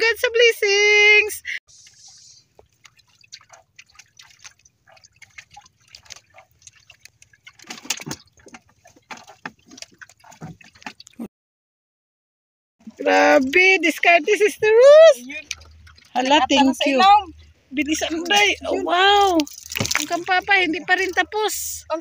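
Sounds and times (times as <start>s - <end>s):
water drips and splashes: 1.7s - 11.3s, 12.8s - 22.0s.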